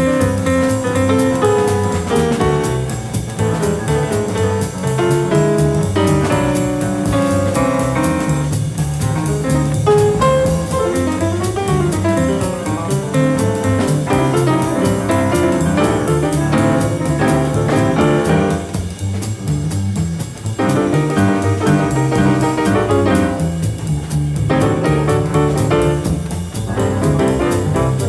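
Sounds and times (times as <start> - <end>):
double bass line: 0.0 - 28.0
drum kit cymbals: 0.0 - 28.0
grand piano solo: 0.0 - 28.0.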